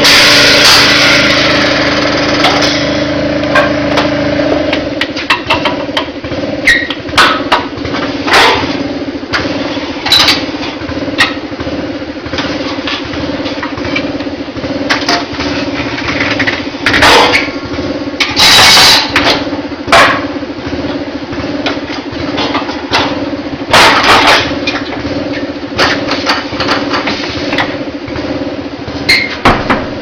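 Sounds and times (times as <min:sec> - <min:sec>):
air compressor running: 0:00.0 - 0:30.0.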